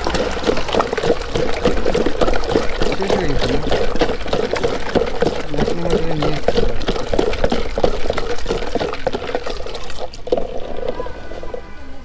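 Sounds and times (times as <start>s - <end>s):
liquid pouring and sloshing: 0.0s - 11.8s.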